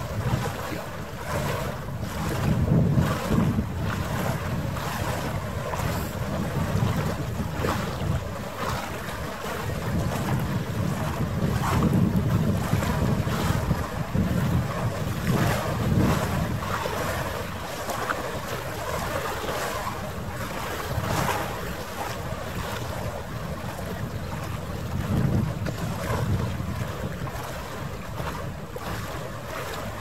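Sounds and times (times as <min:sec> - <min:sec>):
water washing: 0:00.0 - 0:30.0
wind buffeting microphone: 0:00.0 - 0:30.0.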